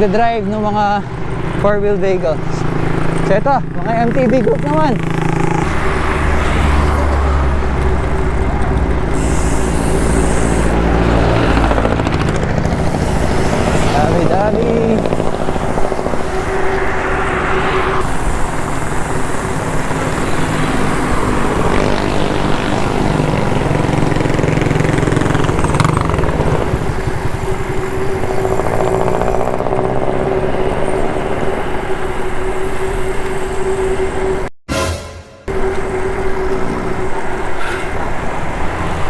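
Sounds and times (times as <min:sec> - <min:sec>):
motor traffic passing: 0:00.0 - 0:34.5, 0:35.2 - 0:39.0.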